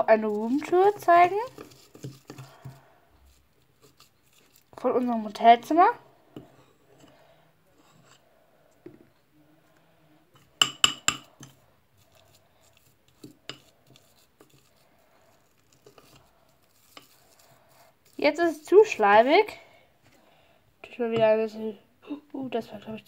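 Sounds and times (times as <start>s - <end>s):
spoon stirring thick slime: 0.0s - 19.6s.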